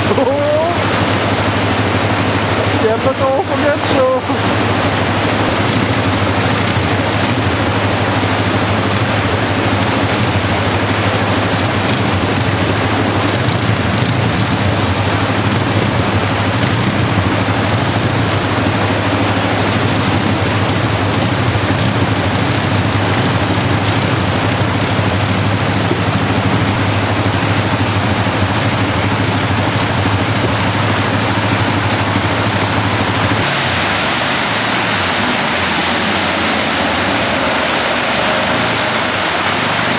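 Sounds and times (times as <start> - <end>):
atv engine running: 0.0 - 39.9
whitewater rushing: 0.0 - 39.9.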